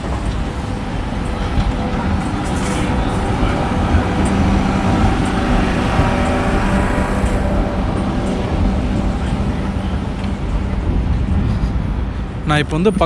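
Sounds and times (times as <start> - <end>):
road traffic: 0.0 - 13.0
steady hum: 0.0 - 13.0
tram moving along street: 0.0 - 13.0.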